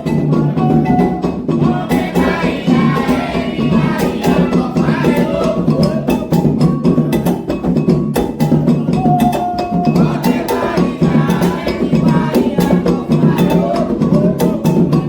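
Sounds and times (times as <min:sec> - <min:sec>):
group singing: 0:00.0 - 0:15.0
hand drums: 0:00.0 - 0:15.0
struck bell rhythm: 0:00.0 - 0:15.0.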